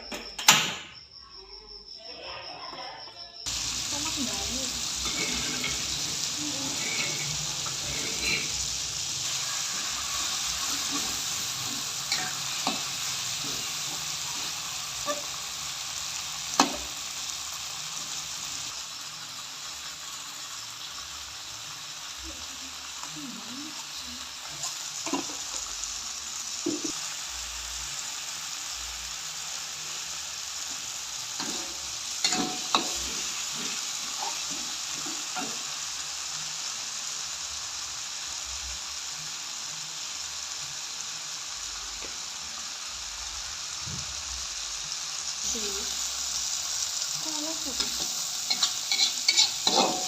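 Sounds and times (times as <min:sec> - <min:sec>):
food sizzling in hot oil: 0:03.4 - 0:50.0.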